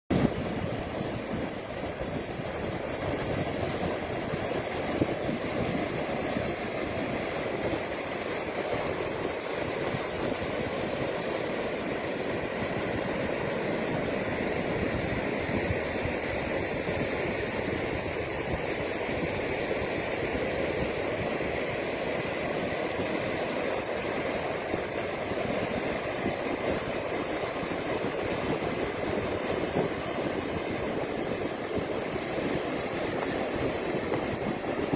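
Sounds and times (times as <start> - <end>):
ocean waves breaking: 0.1 - 34.9.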